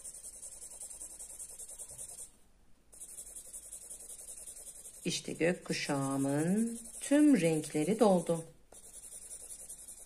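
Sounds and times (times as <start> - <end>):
marker scratching on paper: 0.0 - 2.3, 2.9 - 10.0.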